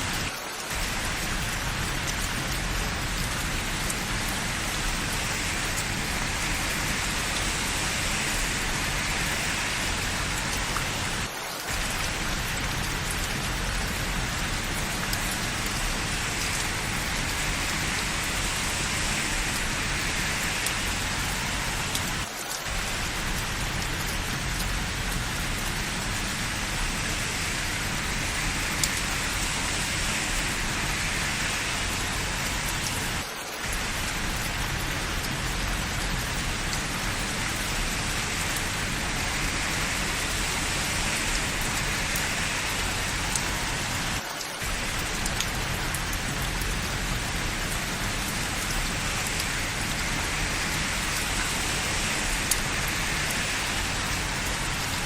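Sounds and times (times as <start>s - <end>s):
raindrop striking close by: 0.0s - 55.0s
steady rain falling: 0.0s - 55.0s.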